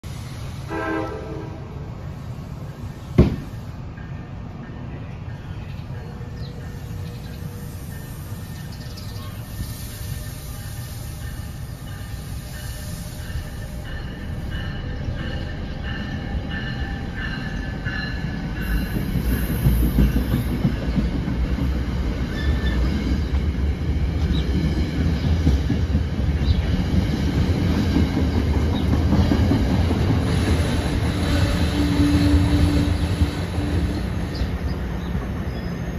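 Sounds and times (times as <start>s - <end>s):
train wheels rumbling and clacking: 2.6s - 35.9s.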